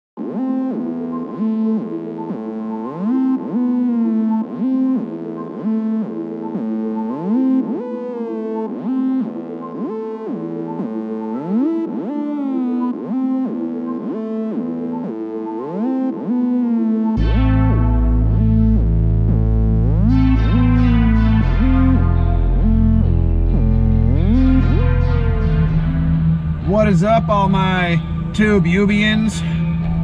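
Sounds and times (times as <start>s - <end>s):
electronic music with gliding synth: 0.2s - 30.0s.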